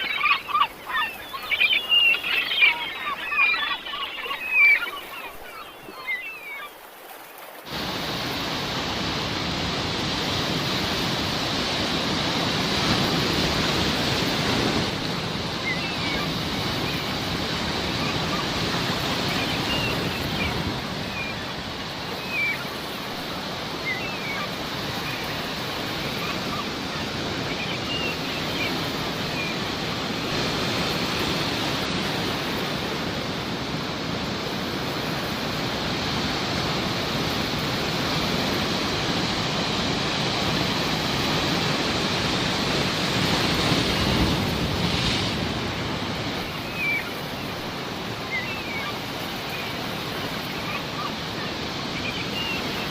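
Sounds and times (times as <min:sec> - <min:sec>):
seagulls calling: 0:00.0 - 0:06.9, 0:11.5 - 0:52.9
sea waves washing on shore: 0:00.0 - 0:52.9.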